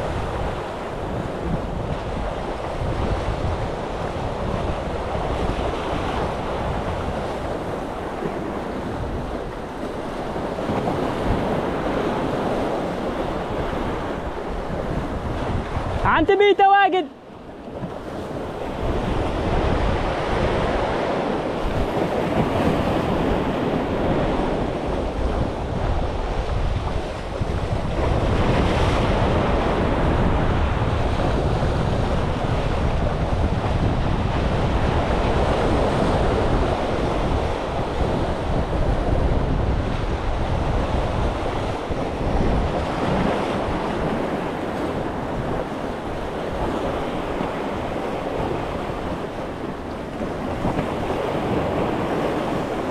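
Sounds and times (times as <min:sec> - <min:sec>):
waves washing against concrete: 0:00.0 - 0:52.9
wind buffeting microphone: 0:00.0 - 0:52.9.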